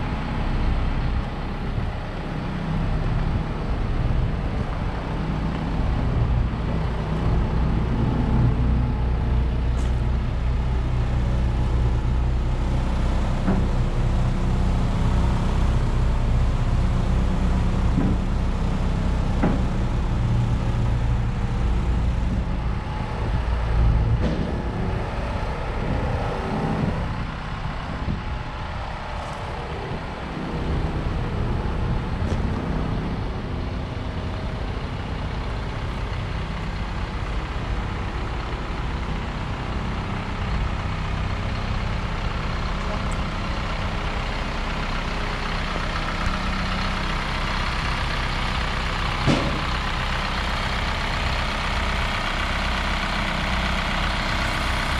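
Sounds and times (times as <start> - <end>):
truck engine idling: 0.0 - 54.9.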